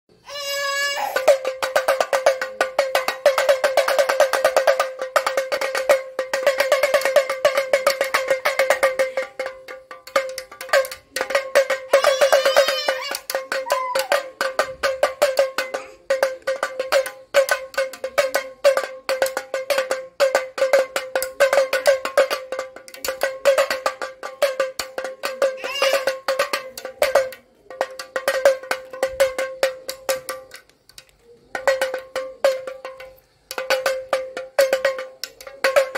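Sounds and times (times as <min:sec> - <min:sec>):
toy pellet drum rattling: 0:00.3 - 0:35.9.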